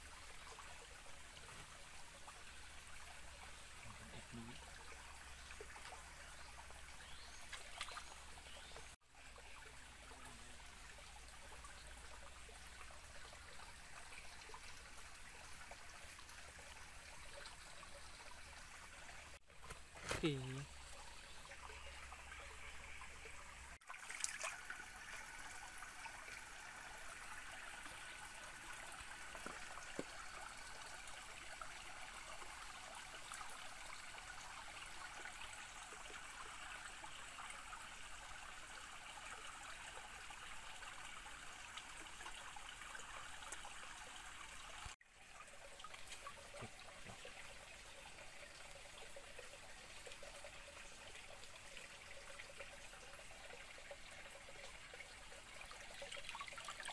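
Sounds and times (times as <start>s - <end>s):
stream trickling over rocks: 0.0s - 56.9s.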